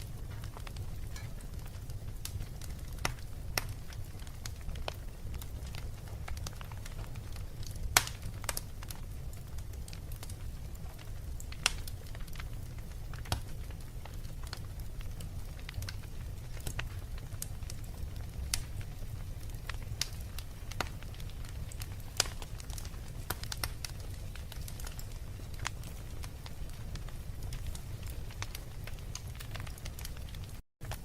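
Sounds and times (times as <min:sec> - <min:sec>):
fire crackling and popping: 0:00.0 - 0:31.0
low fire rumble: 0:00.0 - 0:31.0.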